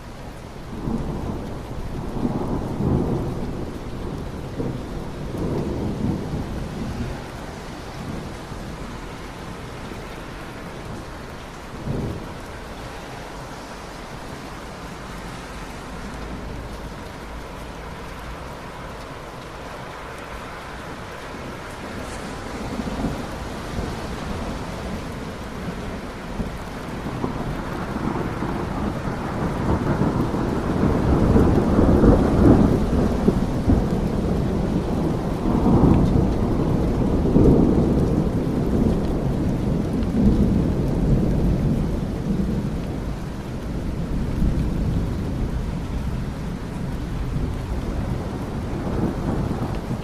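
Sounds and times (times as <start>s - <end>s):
steady rain: 0.0s - 50.0s
rolling thunder: 0.6s - 50.0s.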